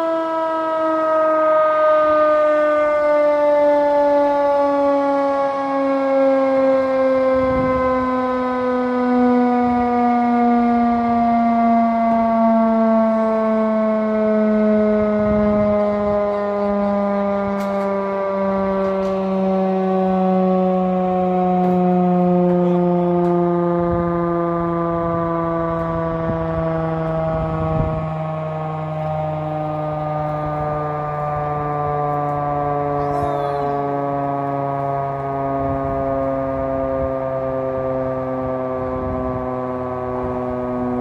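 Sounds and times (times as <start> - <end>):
air-raid siren winding down: 0.0 - 41.0.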